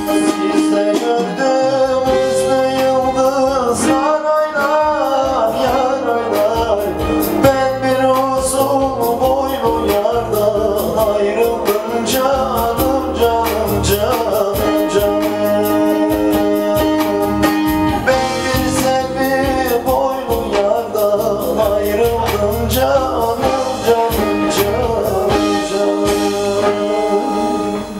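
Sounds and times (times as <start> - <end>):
man singing into a microphone: 0.0 - 27.9
plucked string accompaniment: 0.0 - 27.9.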